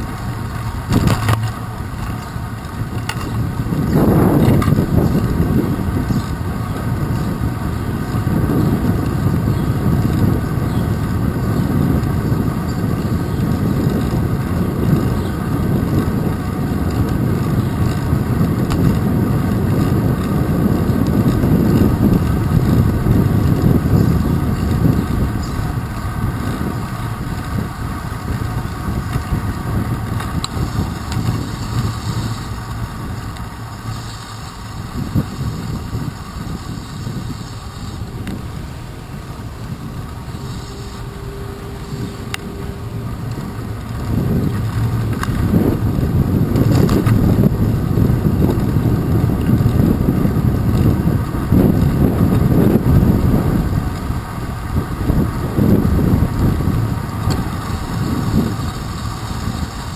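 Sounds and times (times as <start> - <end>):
road rumble: 0.0 - 59.9
wind buffeting: 0.0 - 59.9.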